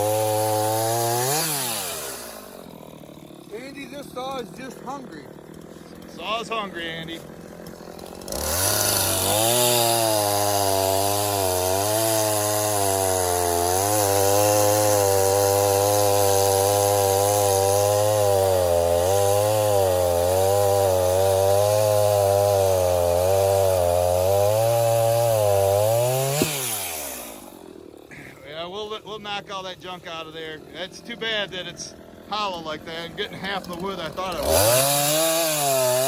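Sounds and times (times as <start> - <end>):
chainsaw cutting a log: 0.0 - 36.0.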